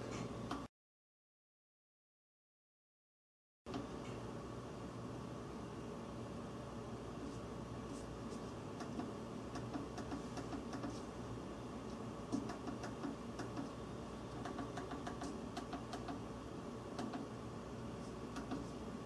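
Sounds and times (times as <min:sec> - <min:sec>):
steady low hum: 0:03.7 - 0:19.0.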